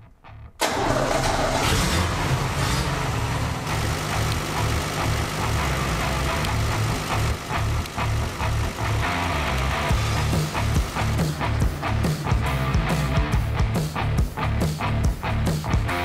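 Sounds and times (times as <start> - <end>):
diesel engine starting and running: 0.6 - 14.0.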